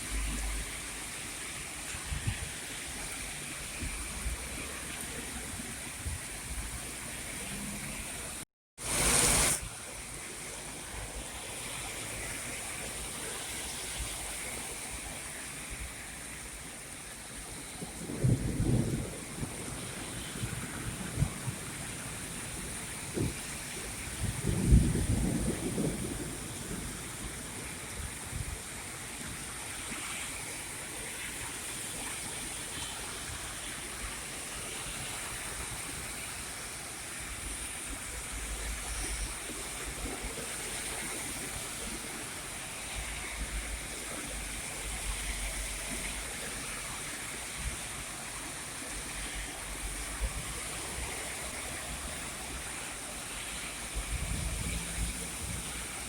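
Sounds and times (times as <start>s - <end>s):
heavy rain: 0.0s - 56.0s
running water rushing: 0.0s - 56.0s.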